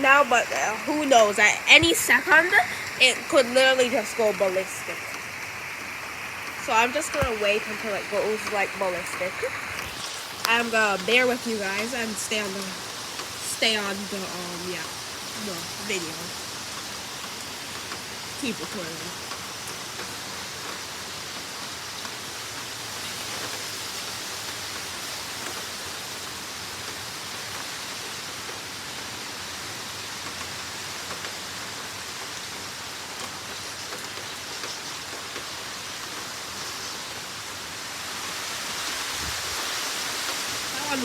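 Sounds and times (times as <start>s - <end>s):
heavy rain and wind: 0.0s - 41.0s.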